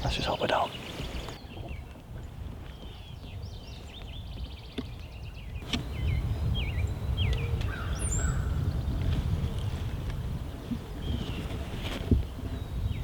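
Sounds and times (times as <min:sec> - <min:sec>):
songbirds chirping and trilling: 0:00.0 - 0:13.0
wind rumbling on microphone: 0:00.0 - 0:13.0.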